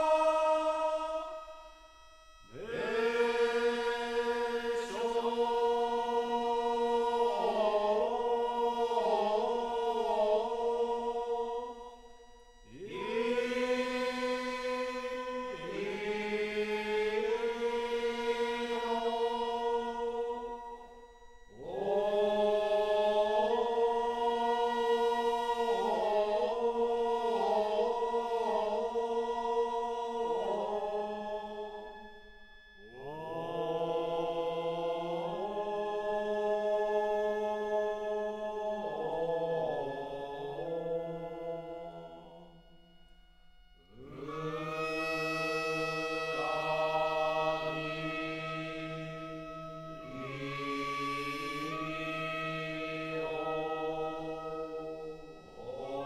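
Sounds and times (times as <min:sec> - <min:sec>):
slow vocal chanting: 0:00.0 - 0:56.0.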